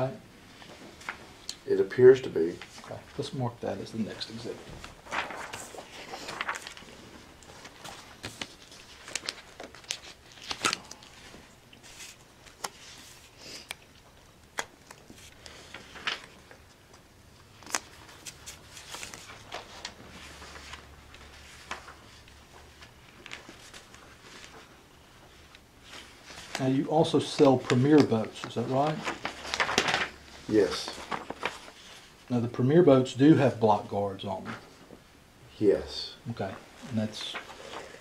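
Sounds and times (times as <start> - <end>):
papers rustling: 0.0 - 32.3, 36.2 - 38.0.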